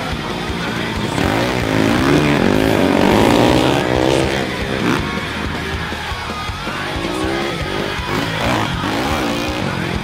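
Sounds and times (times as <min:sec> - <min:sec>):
quad engines revving: 0:00.0 - 0:10.0
rock music: 0:00.0 - 0:10.0.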